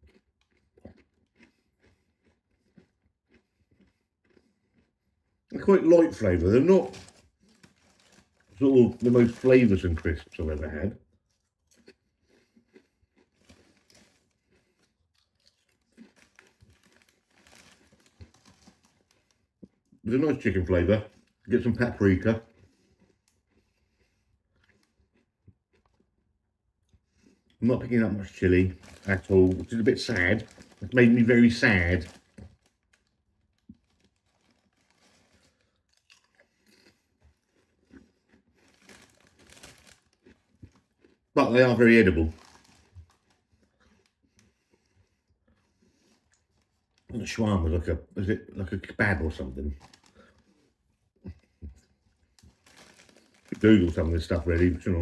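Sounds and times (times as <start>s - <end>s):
crisps crunching: 0.0s - 55.0s.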